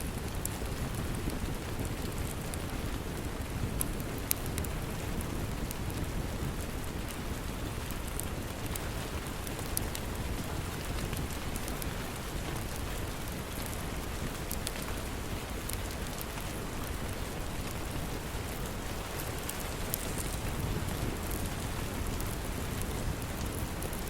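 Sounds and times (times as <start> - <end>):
heavy rain: 0.0 - 24.0
wood fire crackling and popping: 0.0 - 24.0.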